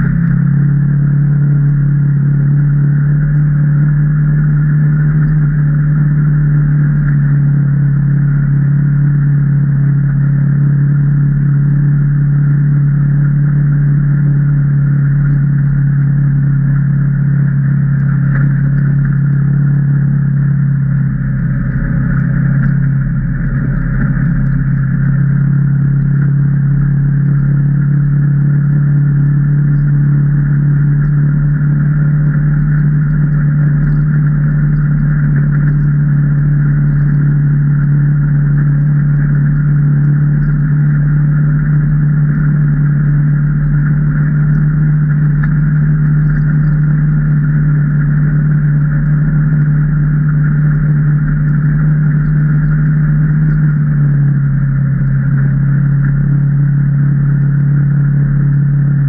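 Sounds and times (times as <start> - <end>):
engine running at steady revs: 0.0 - 59.0.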